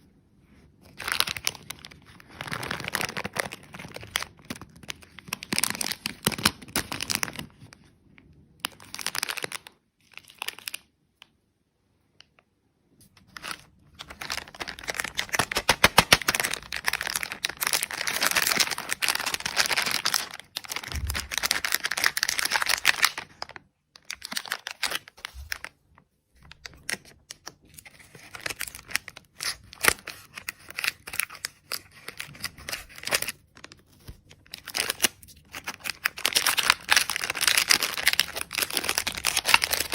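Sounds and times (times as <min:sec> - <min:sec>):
candy wrappers crinkling: 0:00.8 - 0:07.8, 0:08.6 - 0:11.3, 0:13.1 - 0:25.8, 0:26.4 - 0:39.9.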